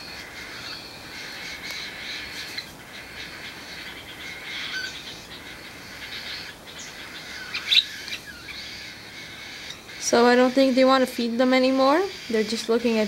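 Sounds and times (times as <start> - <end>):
parakeets chattering and chirping: 0.0 - 13.0.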